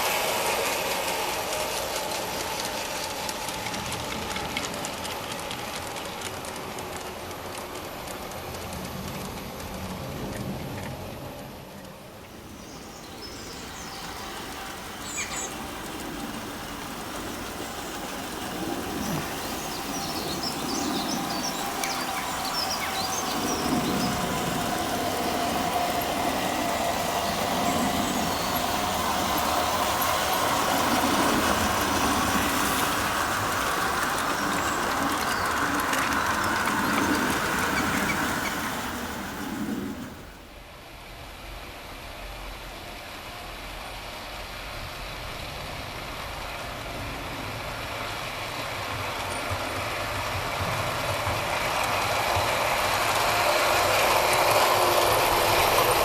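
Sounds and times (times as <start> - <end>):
model train motors whining: 0.0 - 56.0
wheels rumbling on track: 0.0 - 56.0.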